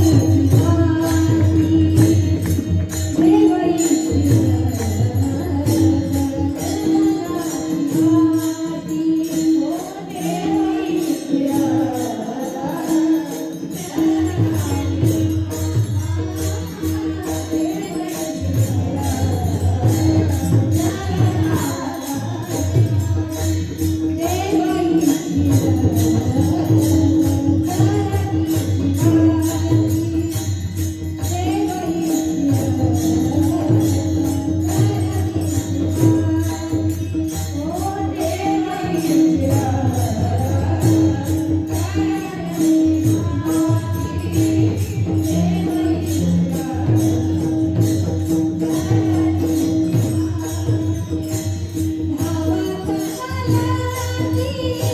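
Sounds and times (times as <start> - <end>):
devotional singing: 0.0 - 54.9
hand cymbals: 0.0 - 54.9.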